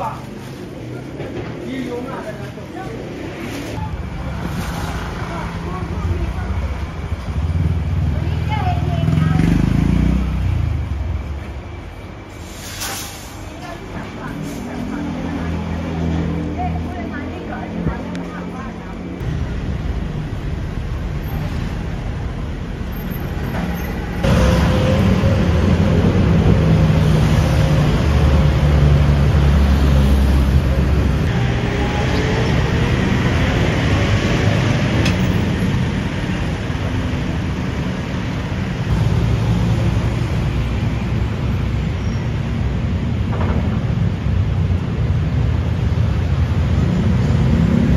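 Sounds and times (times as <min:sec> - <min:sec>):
train rumble and rail noise: 0:00.0 - 0:47.9.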